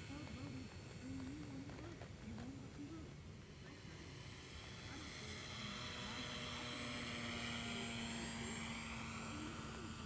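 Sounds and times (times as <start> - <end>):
model plane propeller whirring: 0.0 - 10.0.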